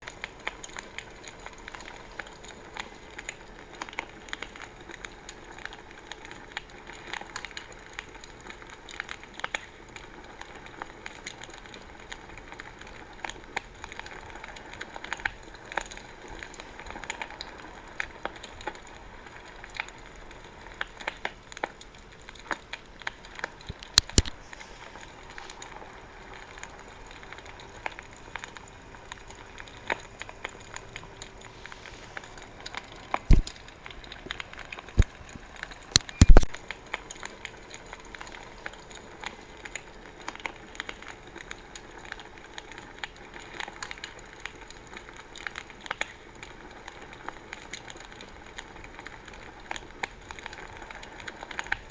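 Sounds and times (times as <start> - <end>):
soft hiss: 0.0 - 42.0
wood fire crackling and popping: 0.0 - 51.9.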